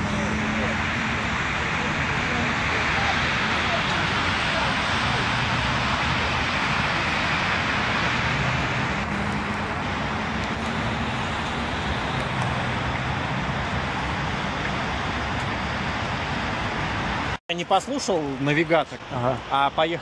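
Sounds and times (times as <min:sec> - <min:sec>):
low engine hum: 0:00.0 - 0:17.4
tyres hissing on wet pavement: 0:00.0 - 0:20.0.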